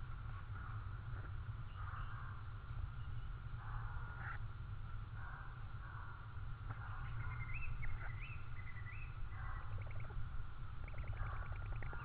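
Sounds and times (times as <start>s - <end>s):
steady low hum: 0.0s - 12.0s
songbird singing: 1.5s - 4.5s, 5.2s - 12.0s.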